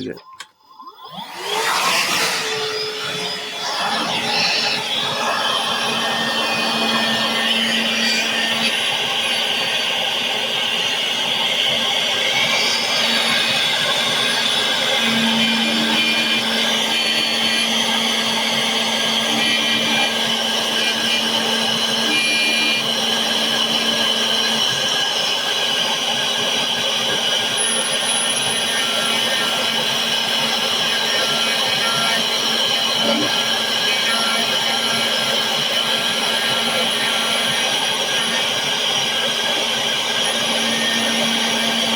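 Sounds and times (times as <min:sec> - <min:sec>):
high spindle whine: 0:00.0 - 0:41.9
key cutting machine running: 0:01.0 - 0:41.9.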